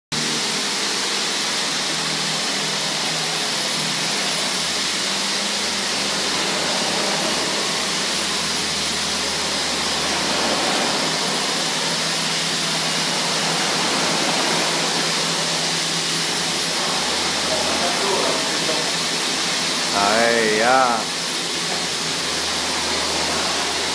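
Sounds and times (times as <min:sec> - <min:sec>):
gas torch hissing: 0:00.2 - 0:23.9.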